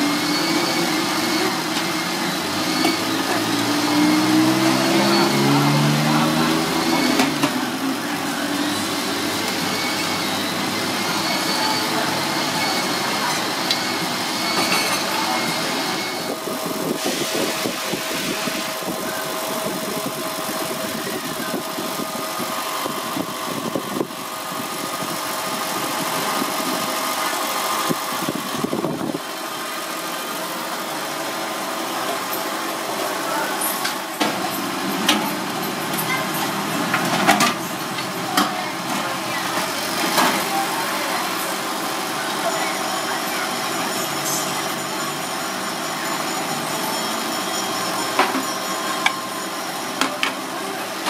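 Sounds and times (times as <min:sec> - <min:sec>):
busy street traffic: 0:00.0 - 0:51.0
vehicle engines idling nearby: 0:00.0 - 0:51.0.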